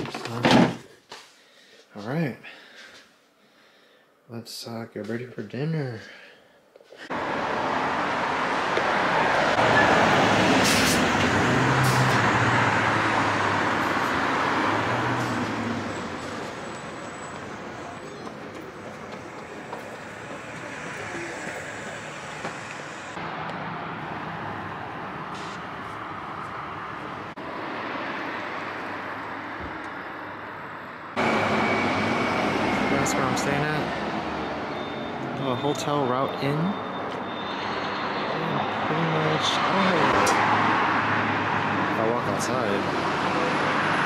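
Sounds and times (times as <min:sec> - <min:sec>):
traffic hum: 0:00.0 - 0:44.0
vehicle passing: 0:07.1 - 0:44.0.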